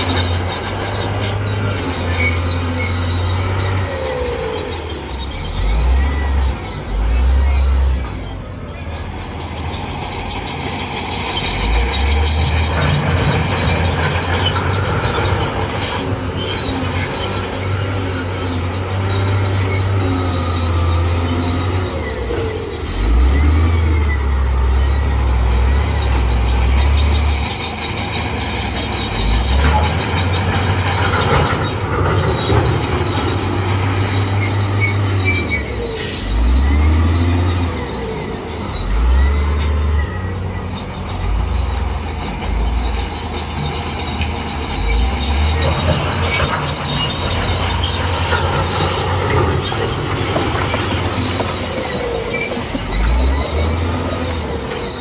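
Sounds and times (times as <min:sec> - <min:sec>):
bulldozer diesel engine droning: 0:00.0 - 0:55.0
steel tracks squealing: 0:00.0 - 0:55.0.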